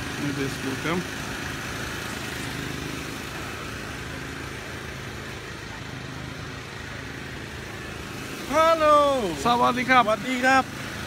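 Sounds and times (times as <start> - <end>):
generator engine hum: 0.0 - 11.0.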